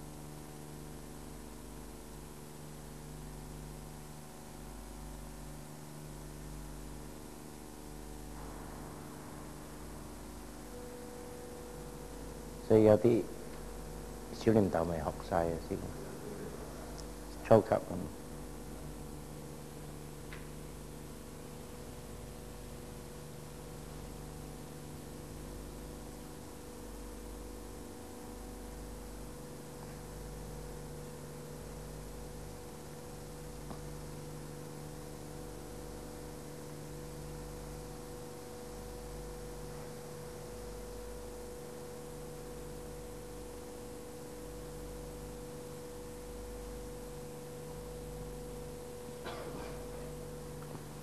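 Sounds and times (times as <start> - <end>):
electrical hum: 0.0 - 51.0.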